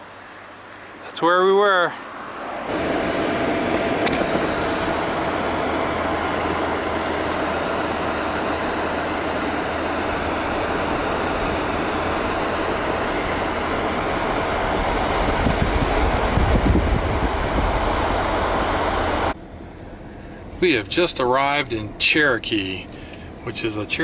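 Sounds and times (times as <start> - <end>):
vehicle road and engine noise: 0.0 - 24.0.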